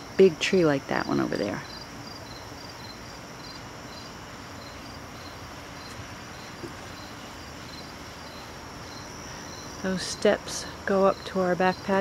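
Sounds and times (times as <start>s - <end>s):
crickets chirping: 0.0s - 12.0s
high insect trill: 0.0s - 12.0s.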